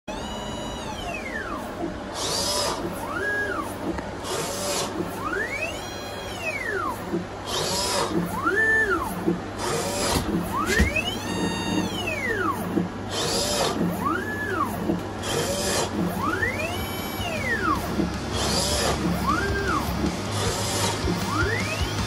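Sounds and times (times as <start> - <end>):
stepper motors whining: 0.1 - 22.0.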